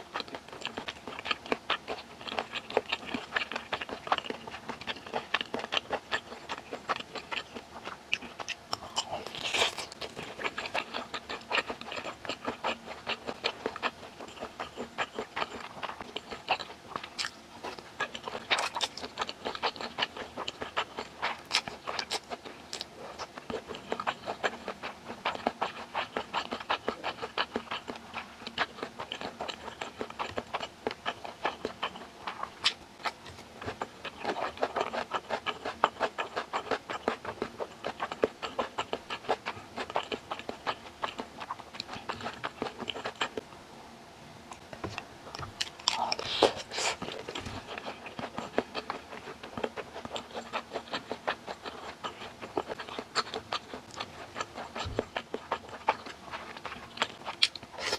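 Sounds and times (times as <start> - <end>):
mouth chewing noodles: 0.0 - 43.4, 44.5 - 57.9.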